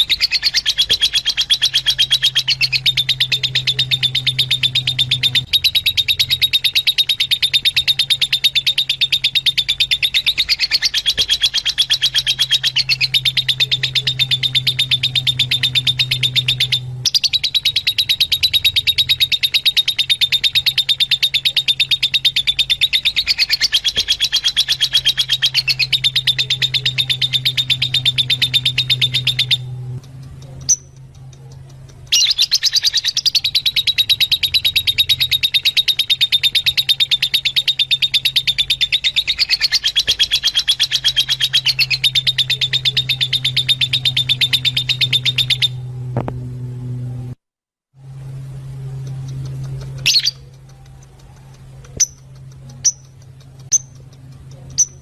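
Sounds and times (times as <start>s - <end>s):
lovebirds chattering shrill chirps: 0.0s - 31.1s, 32.0s - 45.8s, 49.3s - 51.3s, 51.9s - 55.0s.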